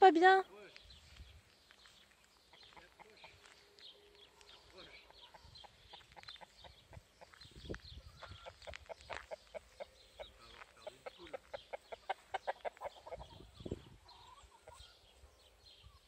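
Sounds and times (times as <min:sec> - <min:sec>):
chickens clucking: 0:02.2 - 0:15.2.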